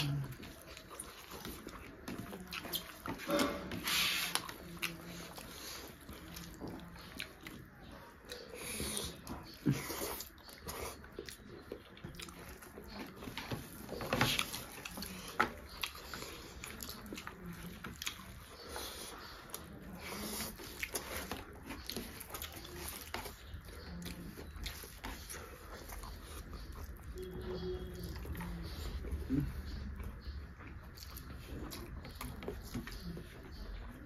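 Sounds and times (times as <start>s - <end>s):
wet chewing and lip-smacking: 0.0s - 34.0s.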